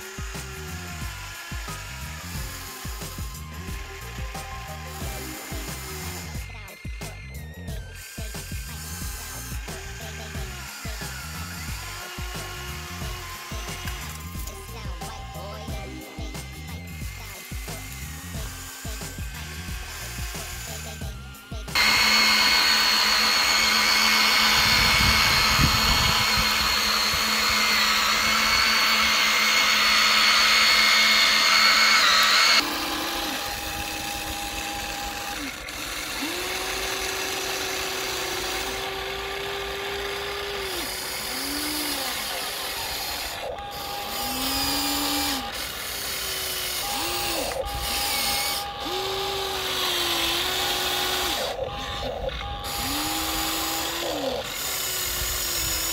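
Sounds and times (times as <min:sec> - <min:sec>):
toy excavator motors whining: 0:00.0 - 0:55.9.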